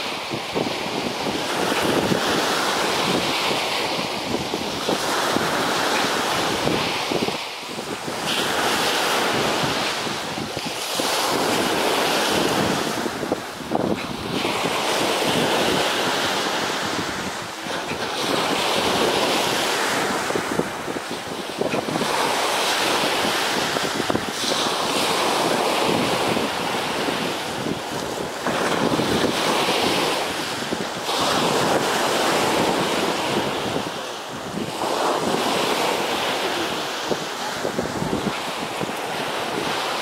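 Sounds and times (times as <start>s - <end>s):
ocean surf breaking: 0.0s - 40.0s
wind buffeting microphone: 0.0s - 40.0s.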